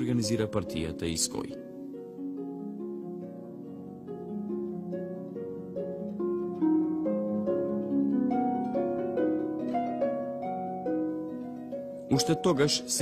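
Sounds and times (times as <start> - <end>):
plucked strings playing: 0.0 - 13.0.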